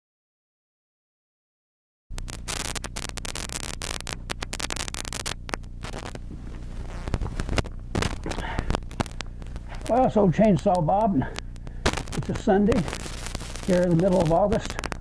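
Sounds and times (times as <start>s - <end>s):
crackling static: 2.1s - 15.0s
electrical hum: 2.1s - 15.0s
sharp clicks: 2.1s - 15.0s.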